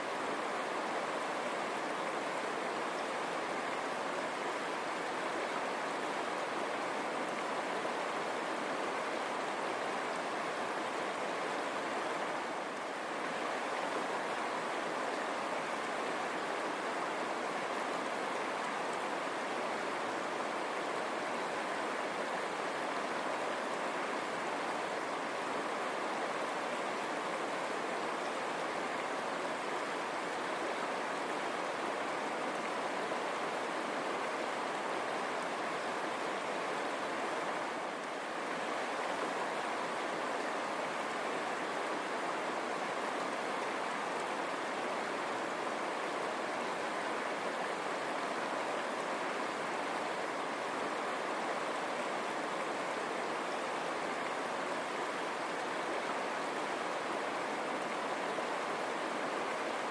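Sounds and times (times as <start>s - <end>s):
river babbling over rocks: 0.0s - 59.9s.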